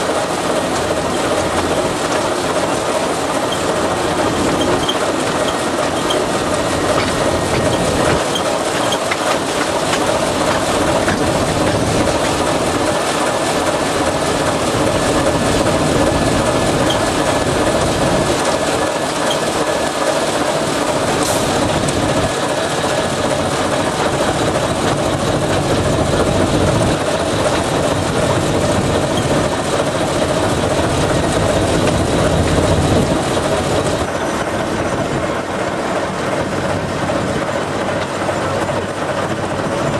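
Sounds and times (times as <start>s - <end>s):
diesel engine running: 0.0s - 39.9s
train wheels on rails: 0.0s - 39.9s.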